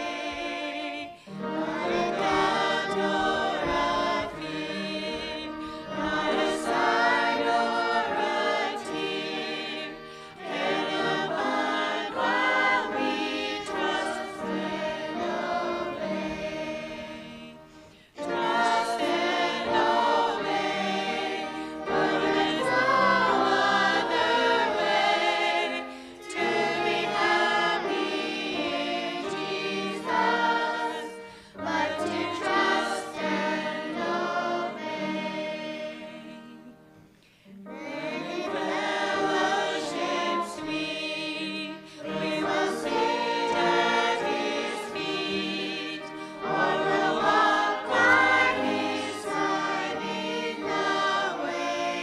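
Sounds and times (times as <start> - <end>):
group singing a hymn: 0.0 - 52.0.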